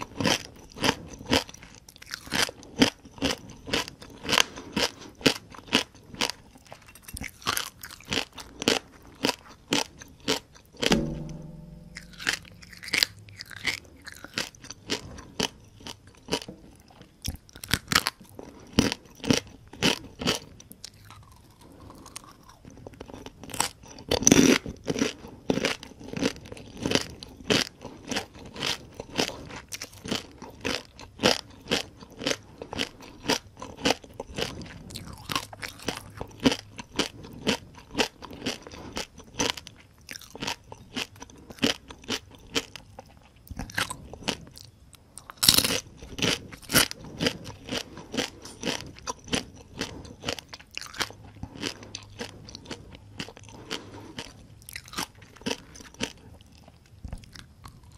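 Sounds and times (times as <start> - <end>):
crunching and chewing fried crabs: 0.0 - 57.9.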